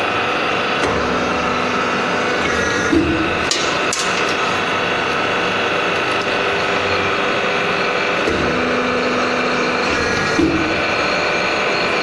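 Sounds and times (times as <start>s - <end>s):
pump motor humming with whine: 0.0s - 12.0s.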